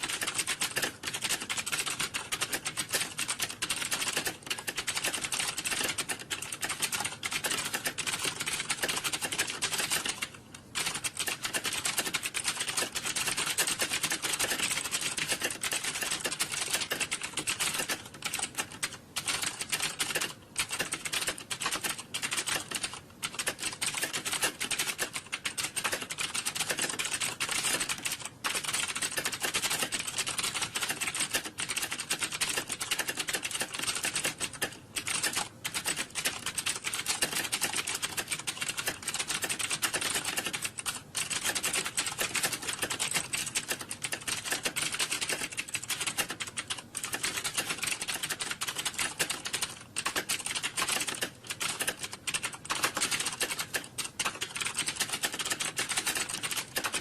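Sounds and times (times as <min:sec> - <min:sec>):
rapid typing on keyboards: 0:00.0 - 0:57.0.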